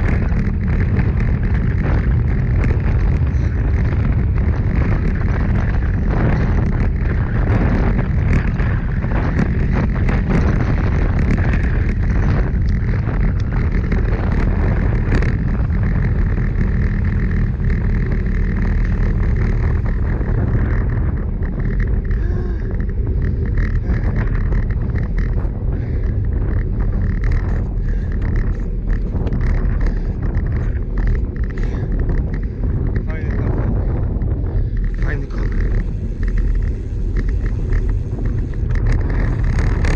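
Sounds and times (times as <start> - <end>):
tyre noise on asphalt: 0.0 - 39.9
wind buffeting microphone: 0.0 - 39.9.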